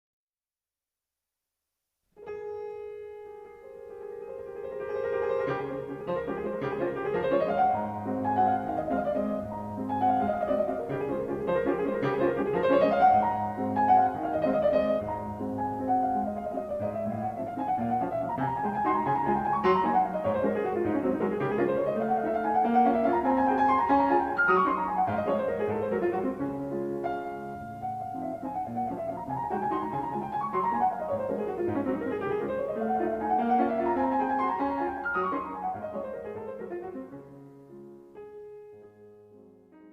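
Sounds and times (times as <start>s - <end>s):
piano music: 2.2s - 39.9s.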